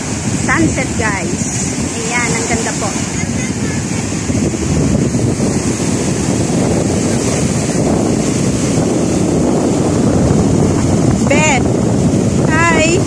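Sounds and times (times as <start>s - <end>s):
small waves breaking on sand: 0.0s - 13.0s
wind buffeting microphone: 0.0s - 13.0s.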